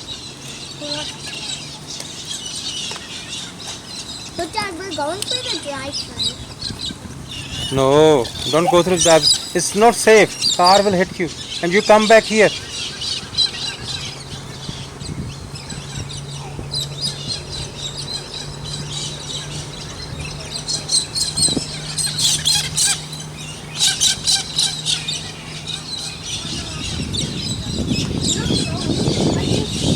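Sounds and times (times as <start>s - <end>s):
small birds chirping: 0.0s - 29.9s
steady low hum: 0.0s - 29.9s.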